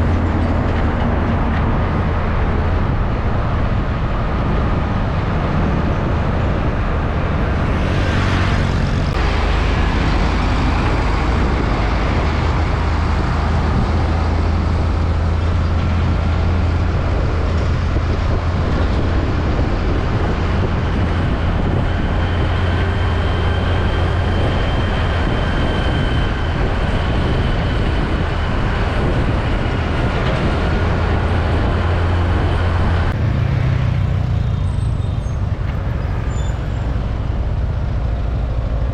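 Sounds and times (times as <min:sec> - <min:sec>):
diesel engine rumble: 0:00.0 - 0:38.9
trucks passing: 0:00.0 - 0:38.9
tyre and road noise: 0:00.0 - 0:38.9.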